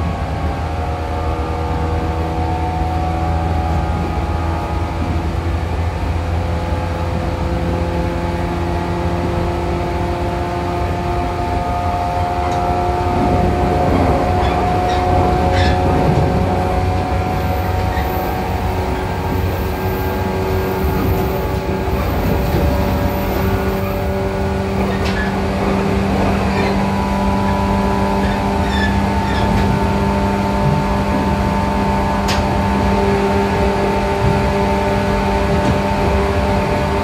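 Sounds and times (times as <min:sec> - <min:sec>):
train traction motors humming: 0:00.0 - 0:37.0
wheels rumbling on rail: 0:00.0 - 0:37.0.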